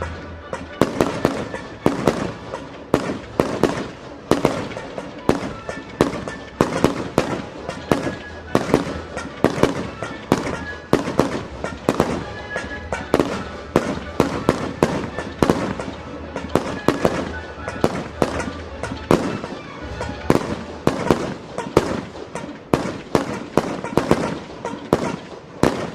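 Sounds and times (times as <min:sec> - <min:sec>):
fireworks bangs: 0:00.0 - 0:25.9.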